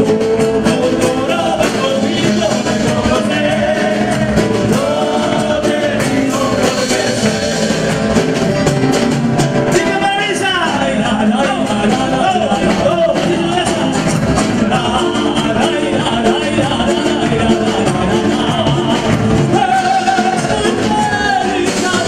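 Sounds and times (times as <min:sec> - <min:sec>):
man singing into a microphone: 0:00.0 - 0:08.4, 0:09.7 - 0:22.0
acoustic guitar: 0:00.0 - 0:22.0.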